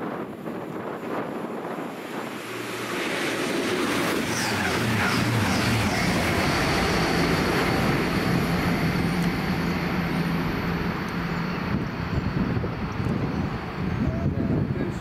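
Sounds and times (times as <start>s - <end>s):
train passing at speed: 1.0s - 15.0s
high whine: 1.8s - 15.0s.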